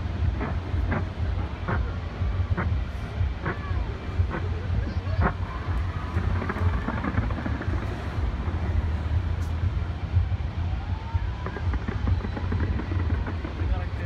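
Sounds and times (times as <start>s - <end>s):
fireworks booming: 0.0s - 14.0s
fireworks crackling: 0.0s - 14.0s.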